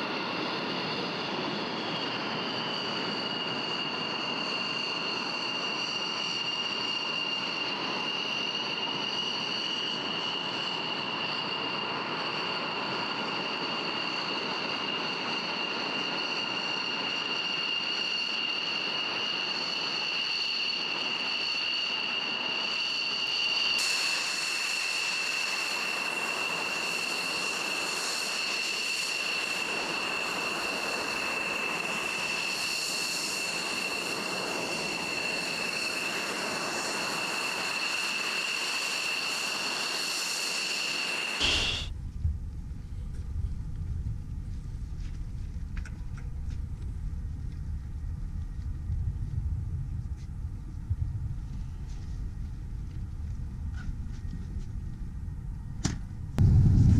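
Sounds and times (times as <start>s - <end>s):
jet engine whine and hiss: 0.0s - 56.9s.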